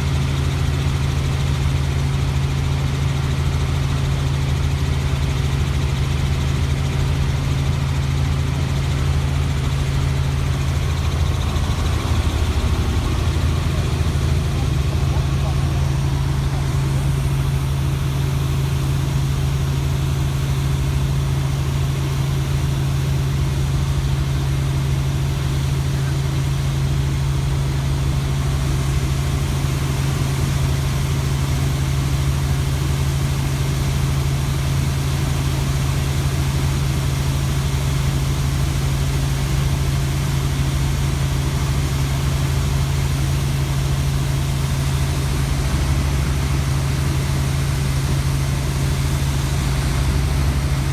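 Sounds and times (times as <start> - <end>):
helicopter drone: 0.0 - 50.9.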